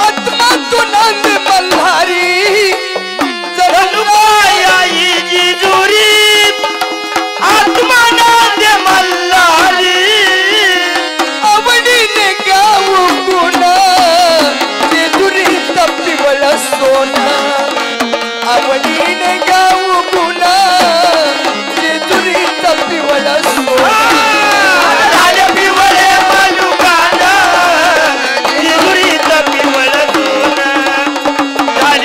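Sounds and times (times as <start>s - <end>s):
drum beaten in fast rhythm: 0.0s - 32.0s
man singing through microphone: 0.0s - 32.0s.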